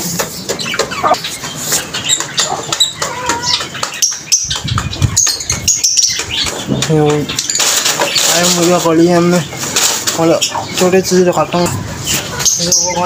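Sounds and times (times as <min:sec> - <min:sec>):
birds chirping: 0:00.0 - 0:13.0
chickens clucking: 0:00.0 - 0:13.0.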